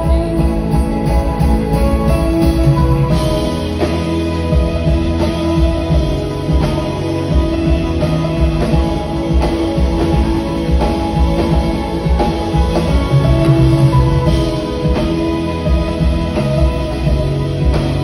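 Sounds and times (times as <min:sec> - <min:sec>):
drum kit: 0:00.0 - 0:18.0
guitar: 0:00.0 - 0:18.0
keyboards: 0:00.0 - 0:18.0.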